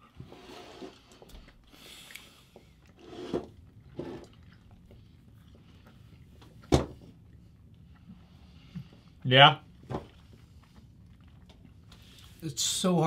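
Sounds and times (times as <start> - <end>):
wet chewing of candy: 0.9 - 12.4.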